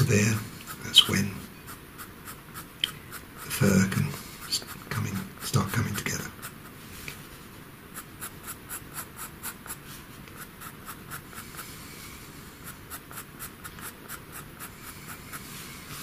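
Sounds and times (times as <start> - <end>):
pencil scratching on paper: 0.0 - 7.1, 7.9 - 16.0.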